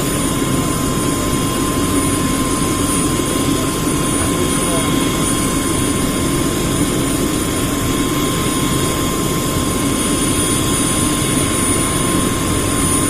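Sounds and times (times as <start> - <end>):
helicopter rotor noise: 0.0 - 13.0
helicopter turbine whine: 0.0 - 13.0.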